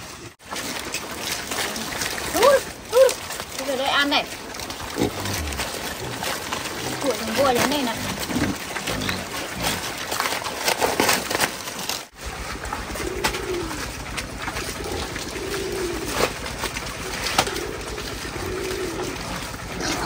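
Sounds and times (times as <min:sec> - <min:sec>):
crunching and clicking: 0:00.0 - 0:20.0.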